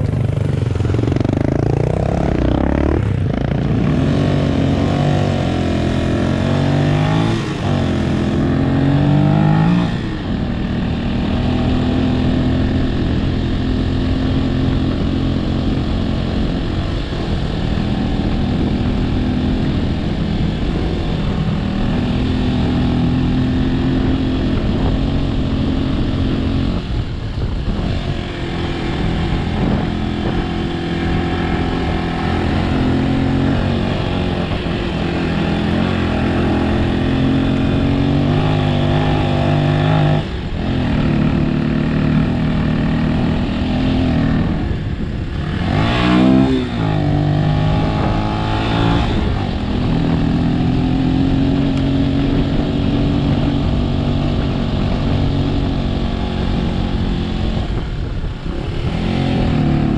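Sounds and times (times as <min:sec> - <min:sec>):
steady rushing noise: 0:00.0 - 0:59.9
vehicle engine accelerating: 0:00.0 - 0:59.9.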